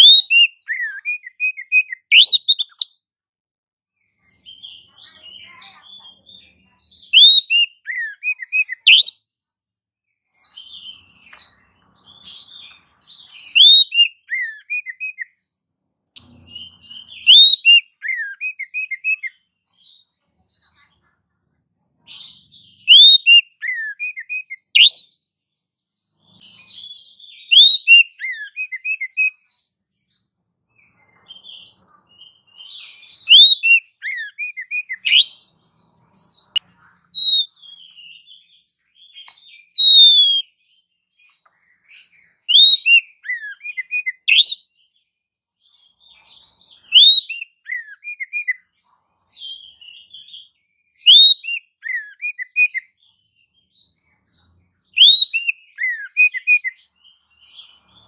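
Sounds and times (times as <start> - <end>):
soft bird twittering: 0.0 - 3.1, 4.0 - 9.5, 10.1 - 30.2, 30.8 - 58.0
songbirds chirping: 0.0 - 3.1, 3.9 - 58.0.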